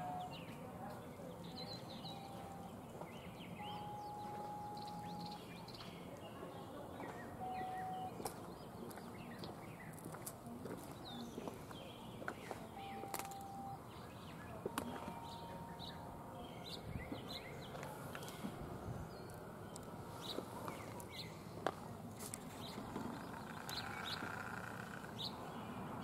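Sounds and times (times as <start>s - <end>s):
outdoor ambient noise: 0.0s - 26.0s
songbirds chirping: 0.0s - 26.0s.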